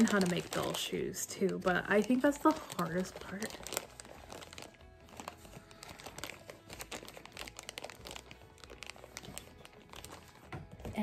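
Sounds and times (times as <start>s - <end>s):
faint crinkling: 0.0s - 11.0s.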